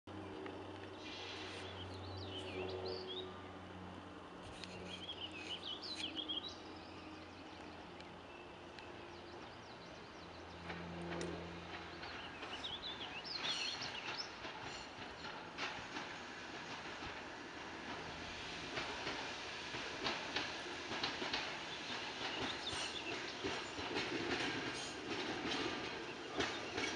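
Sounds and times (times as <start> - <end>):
songbirds singing: 0.2 - 3.5, 4.5 - 10.8, 11.7 - 17.2, 20.0 - 26.9.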